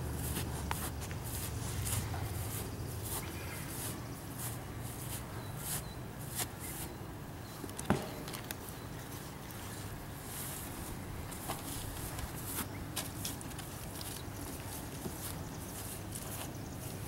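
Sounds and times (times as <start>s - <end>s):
footsteps swishing through grass: 0.0s - 6.9s, 9.6s - 17.0s.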